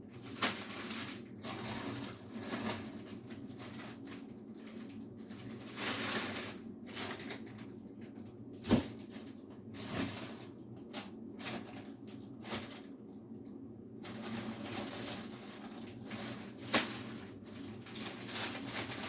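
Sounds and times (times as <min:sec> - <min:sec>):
refrigerator hum: 0:00.0 - 0:19.0
packages rustling: 0:00.1 - 0:13.1, 0:14.0 - 0:19.0.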